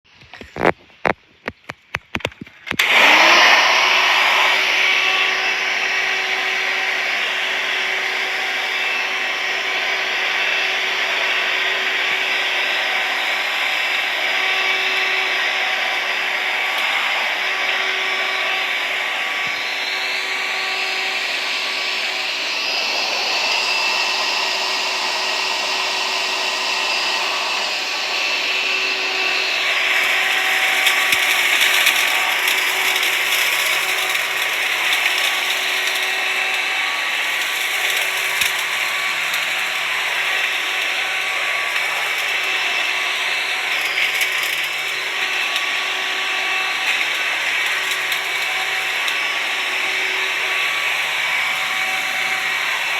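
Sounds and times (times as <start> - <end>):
vacuum cleaner running: 2.7 - 52.9.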